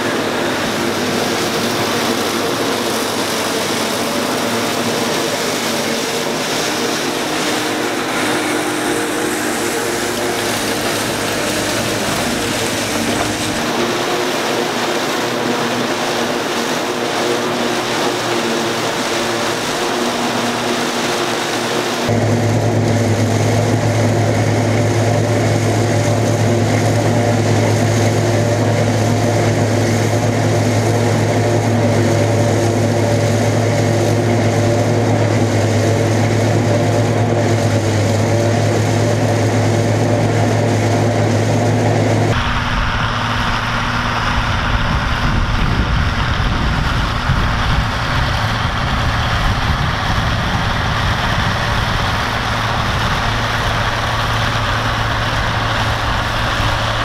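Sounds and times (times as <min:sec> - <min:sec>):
distant tractor rumble: 0:00.0 - 0:57.0
tractor and forage harvester humming: 0:00.0 - 0:57.0.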